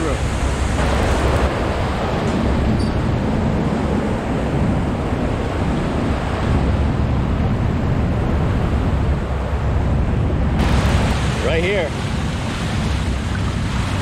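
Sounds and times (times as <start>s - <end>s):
churning water rushing: 0.0s - 14.0s.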